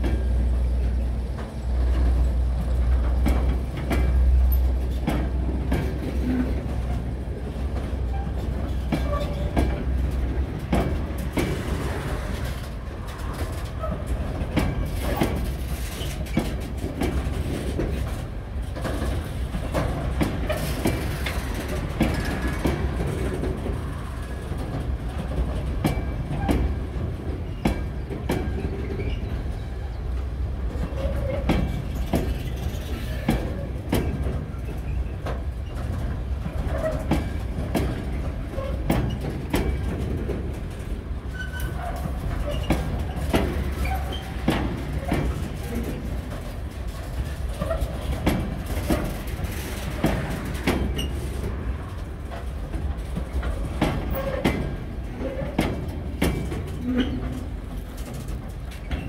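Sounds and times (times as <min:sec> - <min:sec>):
train wheels rumbling on rail: 0:00.0 - 0:59.0
wheels clicking over rail joints: 0:00.0 - 0:59.0.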